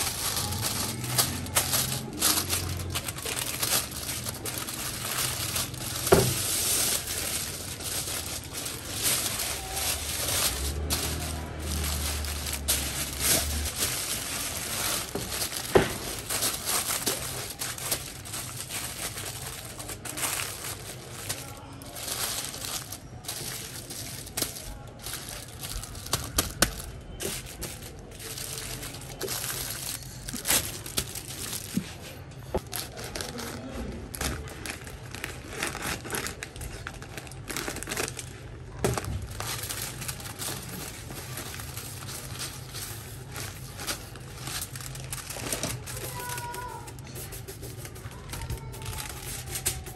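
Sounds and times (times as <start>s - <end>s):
aluminium foil crinkling: 0.0s - 49.9s.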